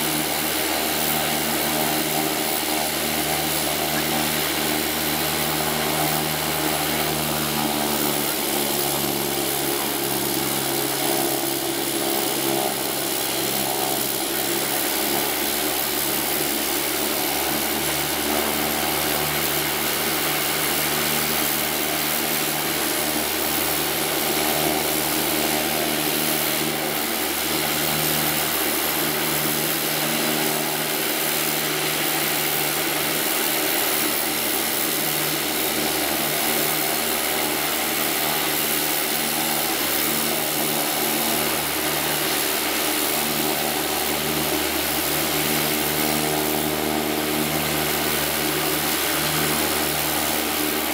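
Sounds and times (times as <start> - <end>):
turboprop engine running: 0.0 - 50.9.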